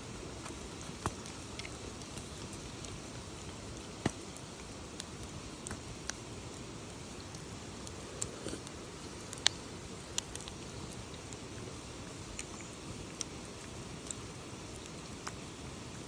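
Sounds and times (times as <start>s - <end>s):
campfire crackling and popping: 0.0s - 16.0s
low hiss: 0.0s - 16.0s.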